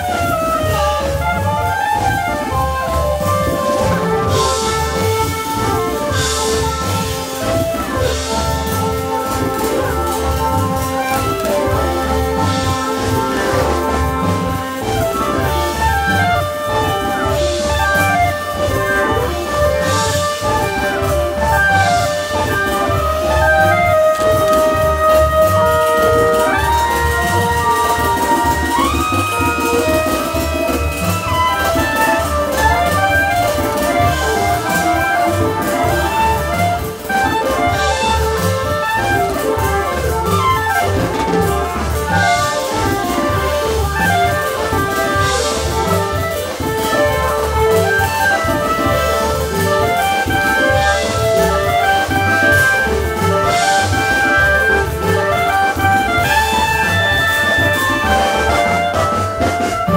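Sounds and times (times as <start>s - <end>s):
drum kit: 0.0s - 59.9s
jazz band playing: 0.0s - 59.9s.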